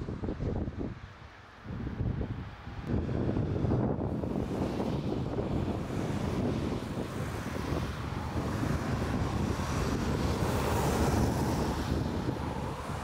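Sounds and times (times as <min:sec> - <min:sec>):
wind buffeting microphone: 0:00.0 - 0:13.0
jet engines rumbling: 0:01.7 - 0:13.0.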